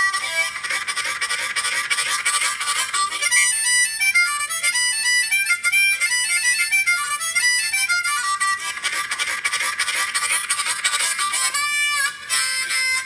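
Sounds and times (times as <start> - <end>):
harmonica playing: 0.0 - 13.0.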